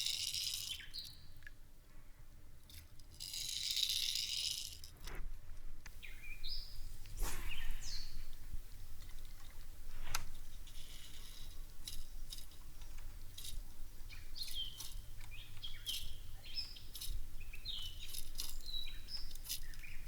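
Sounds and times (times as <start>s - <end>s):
fishing lure rattle in water: 0.0s - 1.5s, 2.7s - 5.0s, 6.0s - 20.0s.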